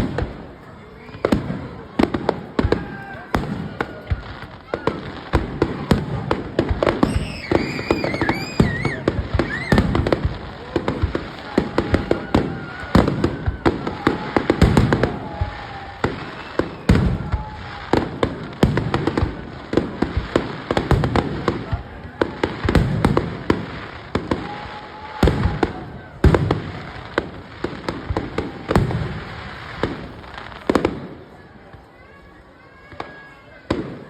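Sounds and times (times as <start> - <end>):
heavy firework booms: 0.0 - 31.2
fireworks bangs and crackles: 0.0 - 34.0.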